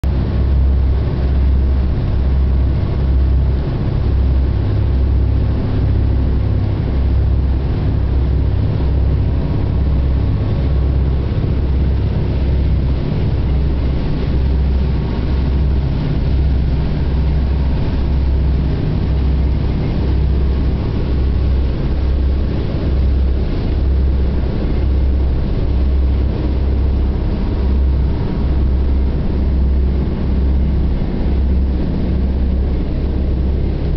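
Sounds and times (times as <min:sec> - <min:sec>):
boat engine droning: 0:00.0 - 0:33.9.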